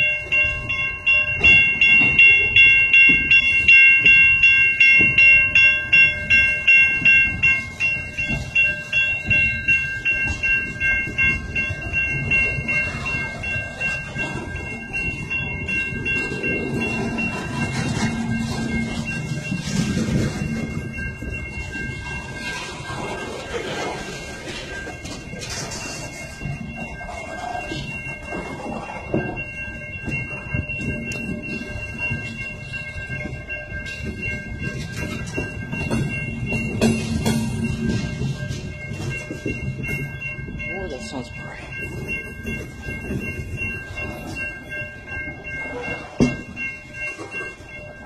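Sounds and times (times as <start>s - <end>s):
crossing signal bell ringing: 0.0s - 48.0s
freight cars rumbling on rails: 0.0s - 48.0s.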